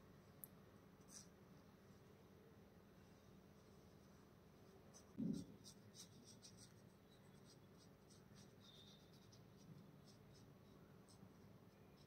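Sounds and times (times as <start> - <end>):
paintbrush strokes on paper: 1.0 - 2.0, 3.0 - 12.0.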